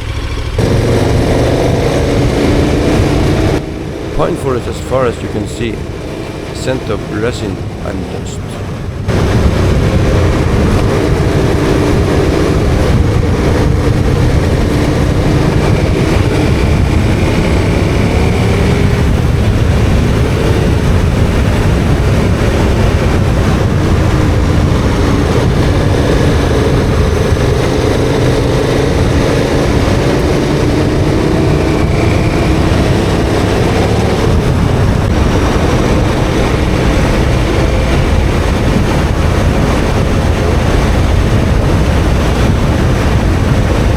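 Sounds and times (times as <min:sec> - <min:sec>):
motorcycle engine running: 0:00.0 - 0:04.2, 0:08.6 - 0:43.9
wind rushing: 0:00.6 - 0:43.9.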